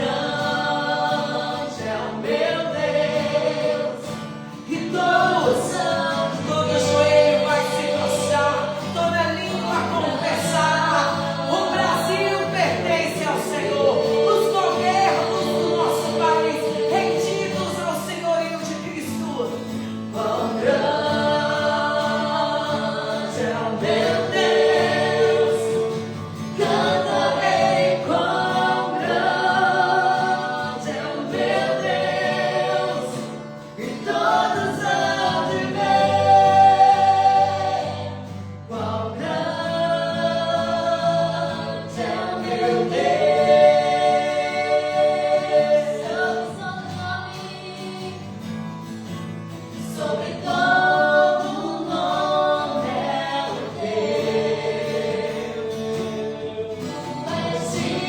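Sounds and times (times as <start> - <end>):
voices singing worship song: 0.0 - 58.0.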